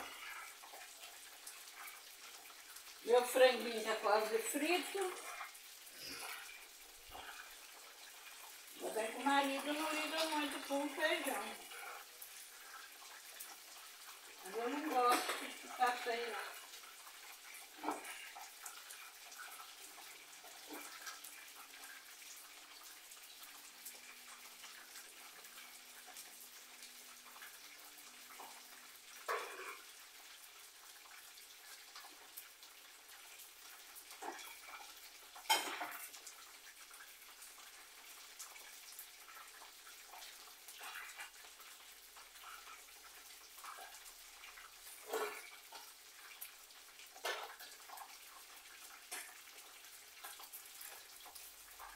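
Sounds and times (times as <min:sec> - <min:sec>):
chicken sizzling in oil: 0:00.0 - 0:51.9.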